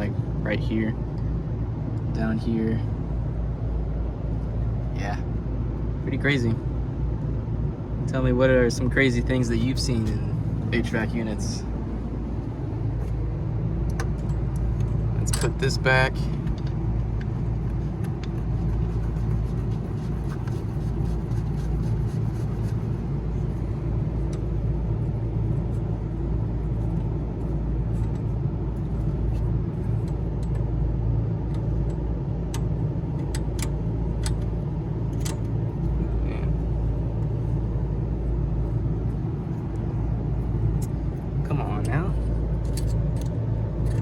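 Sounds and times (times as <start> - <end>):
machinery rumble with hum: 0.0 - 44.0.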